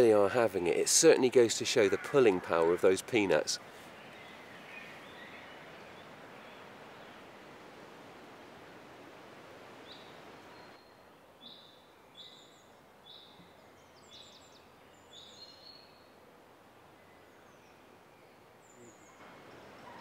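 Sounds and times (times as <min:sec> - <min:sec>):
songbird chirping: 0:00.0 - 0:20.0.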